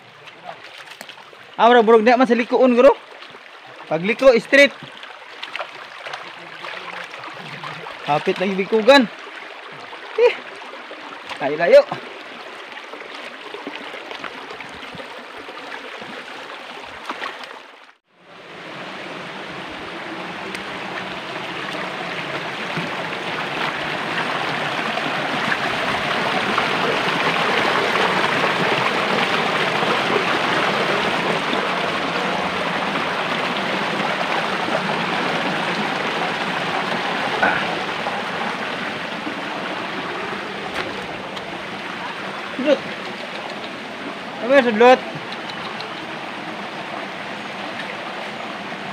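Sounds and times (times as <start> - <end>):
creek rushing over boulders: 0.0 - 48.9.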